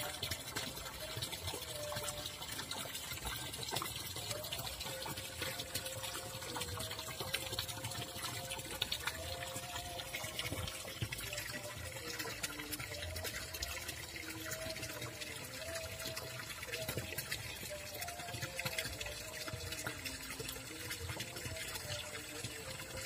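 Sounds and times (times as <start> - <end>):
water trickling over stones: 0.0 - 23.0.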